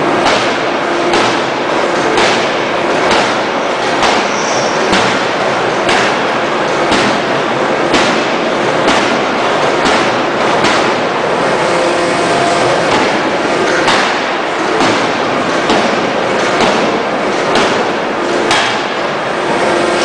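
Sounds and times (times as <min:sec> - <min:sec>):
workshop din: 0:00.0 - 0:20.0
forging hammer striking hot steel: 0:00.1 - 0:19.1.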